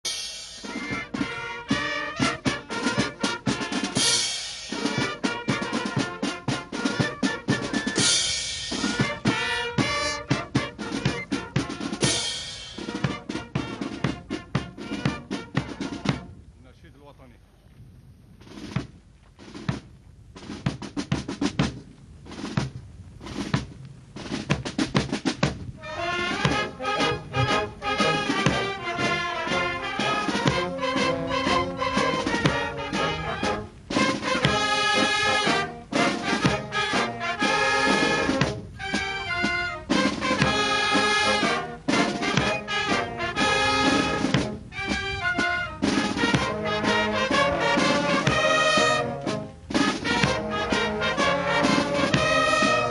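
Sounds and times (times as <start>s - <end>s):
drum strikes: 0.0s - 16.2s, 18.4s - 52.9s
brass band playing: 0.0s - 16.4s, 24.2s - 52.9s.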